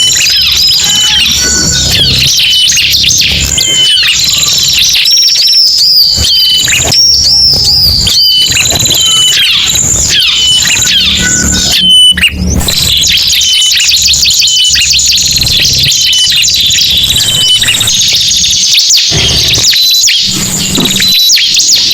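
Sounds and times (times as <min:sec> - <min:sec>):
small songbirds chirping and trilling: 0:00.0 - 0:21.9.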